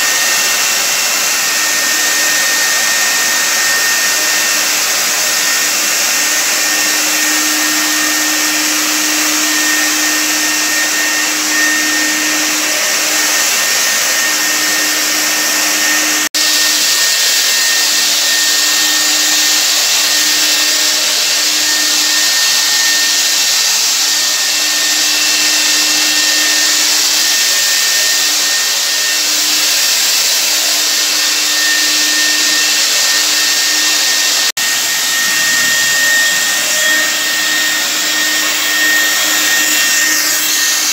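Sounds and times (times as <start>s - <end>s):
fogger blower hiss: 0.0s - 40.9s.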